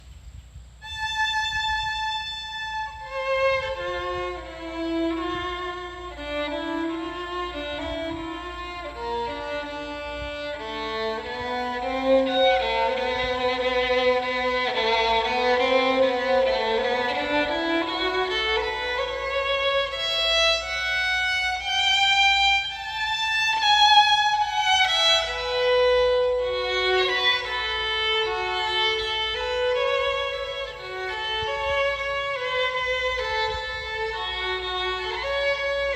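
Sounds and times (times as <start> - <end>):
solo violin slow melody: 0.7 - 35.9.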